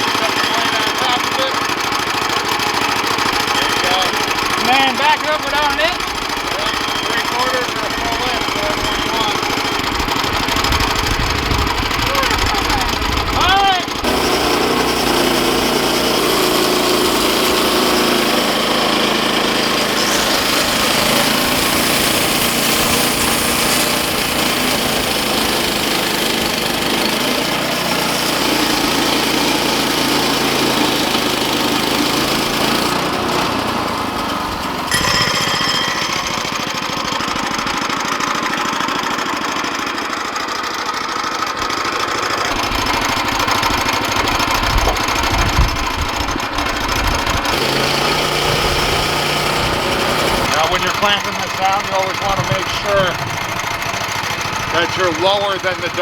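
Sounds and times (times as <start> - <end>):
sawmill engine cutting log: 0.0 - 56.0.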